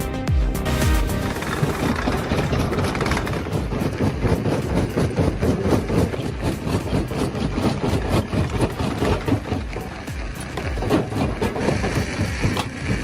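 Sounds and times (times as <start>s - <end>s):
heavy machinery engine running: 0.6s - 13.0s
rapid irregular knocks: 0.9s - 13.0s.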